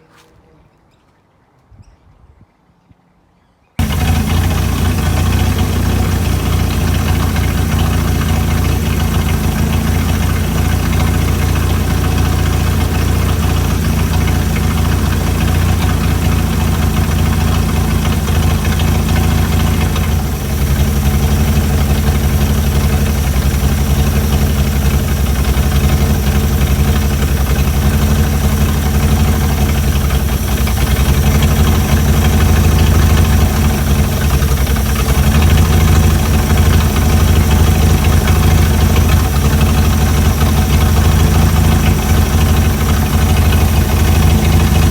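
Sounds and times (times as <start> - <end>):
car engine idling: 3.8 - 44.9.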